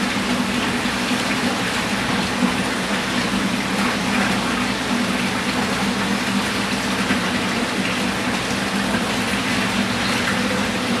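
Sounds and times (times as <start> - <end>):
low pump hum: 0.0 - 11.0.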